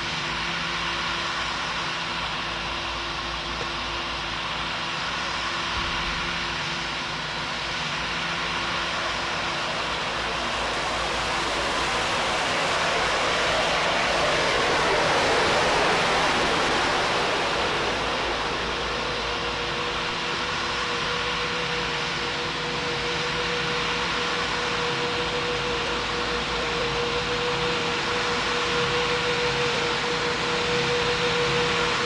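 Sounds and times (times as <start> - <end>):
steady engine whine: 0.0 - 32.0
aircraft engine rushing: 0.2 - 32.0.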